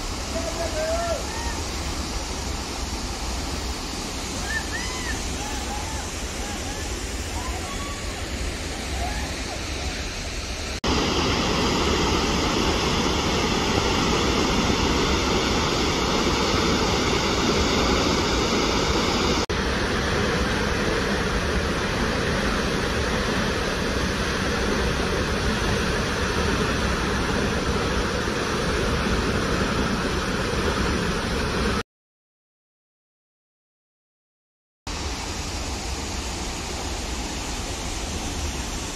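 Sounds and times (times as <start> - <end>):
waterfall rushing: 0.0 - 31.8, 34.9 - 38.9.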